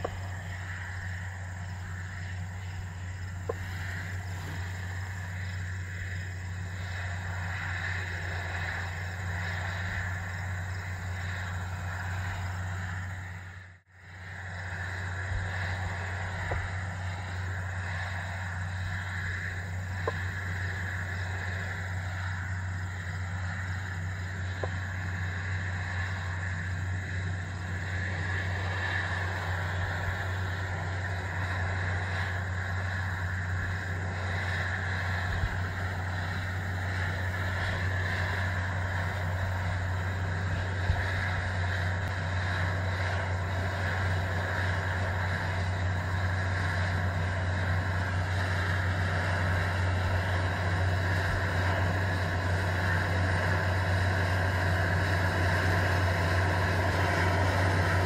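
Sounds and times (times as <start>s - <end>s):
machine hum with hiss: 0.0s - 58.0s
steady engine drone: 0.0s - 58.0s.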